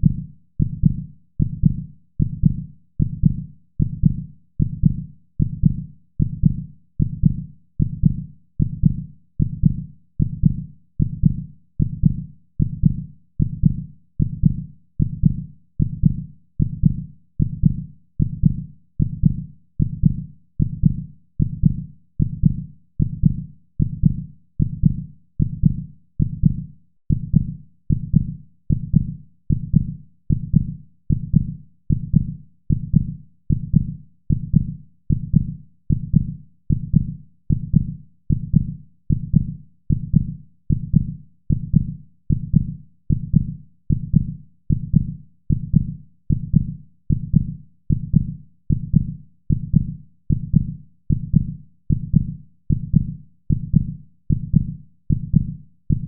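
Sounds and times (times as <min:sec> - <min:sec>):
heartbeat thumping: 0:00.0 - 0:56.0.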